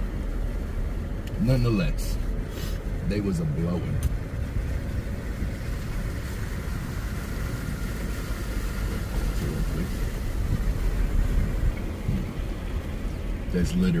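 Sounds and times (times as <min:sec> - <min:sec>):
motor vehicle running: 0:00.0 - 0:14.0.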